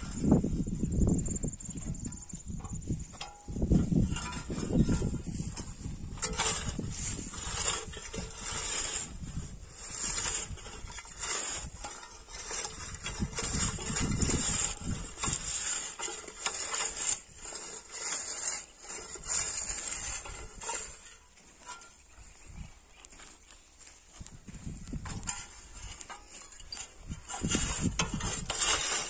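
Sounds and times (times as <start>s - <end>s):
blade scraping through soil clods: 0.0s - 29.0s.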